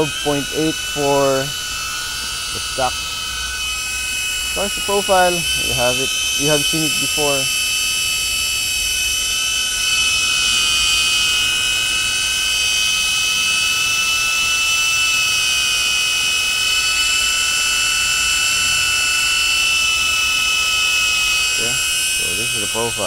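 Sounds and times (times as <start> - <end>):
drone propeller whine: 0.0 - 23.0.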